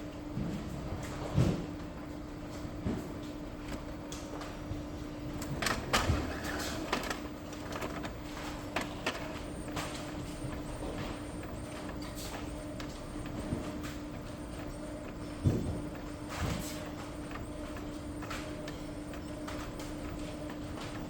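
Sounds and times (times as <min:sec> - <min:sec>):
printer motor hum: 0:01.0 - 0:21.0.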